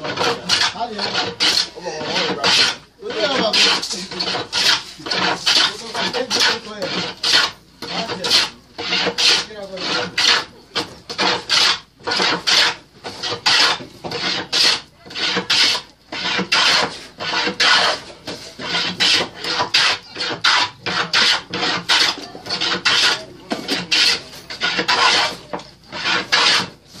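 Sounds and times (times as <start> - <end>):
hand plane shaving wood: 0.0 - 27.0.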